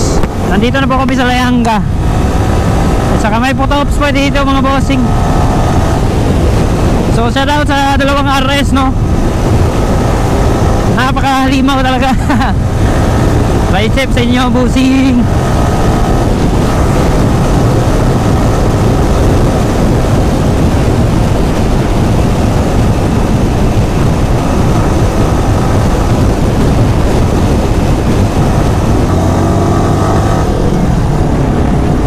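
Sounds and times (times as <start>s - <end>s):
motorcycle engine running: 0.0s - 32.0s
wind noise on microphone: 0.0s - 32.0s.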